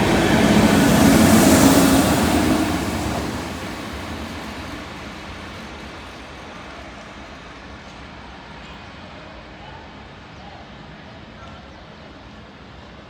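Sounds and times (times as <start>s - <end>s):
passing train rumble: 0.0s - 13.0s.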